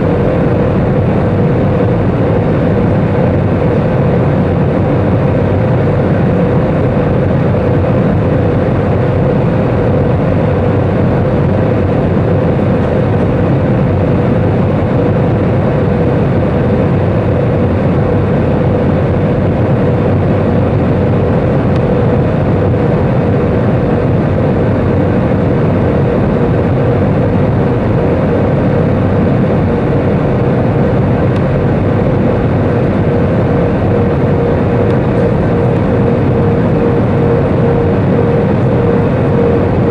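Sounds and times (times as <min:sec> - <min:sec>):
aircraft cabin engine roar: 0:00.0 - 0:39.9
steady hum-like tone: 0:00.0 - 0:39.9.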